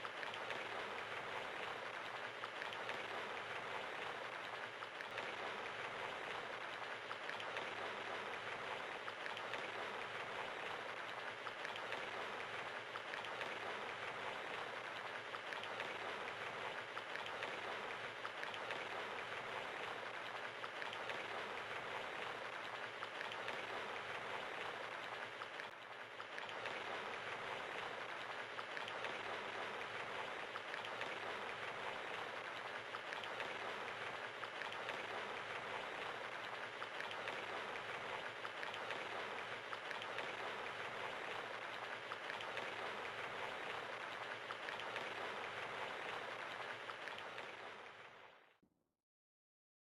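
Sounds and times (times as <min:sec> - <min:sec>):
rain pattering: 0:00.0 - 0:48.3.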